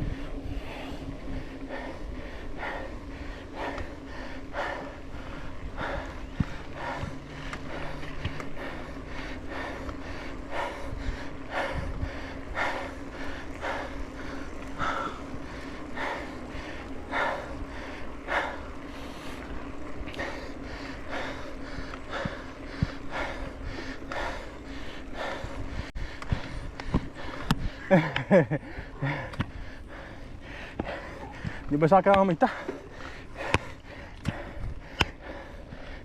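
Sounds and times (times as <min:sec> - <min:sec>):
low hum: 0:00.0 - 0:31.7
person panting heavily: 0:00.0 - 0:36.0.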